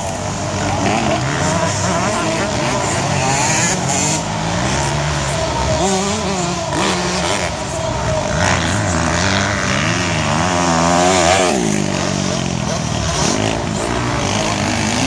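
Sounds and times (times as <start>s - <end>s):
motocross engines revving: 0.0s - 15.0s.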